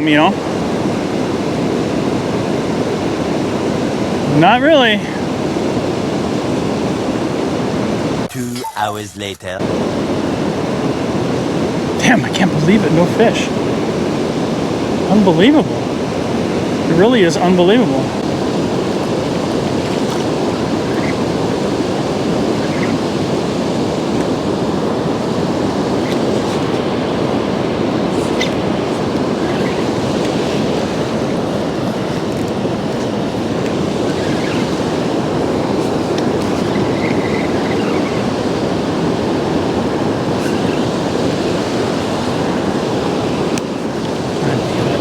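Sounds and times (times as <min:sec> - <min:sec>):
fast river water rushing: 0:00.0 - 0:08.3, 0:09.6 - 0:45.0.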